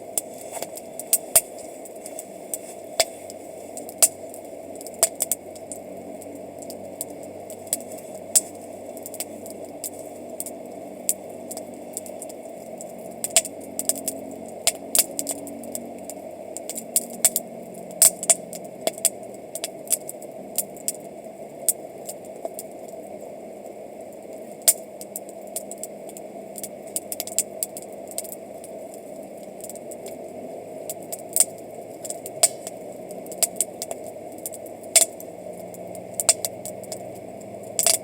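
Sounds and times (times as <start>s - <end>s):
campfire crackling and popping: 0.0s - 38.0s
low hiss: 0.0s - 38.0s.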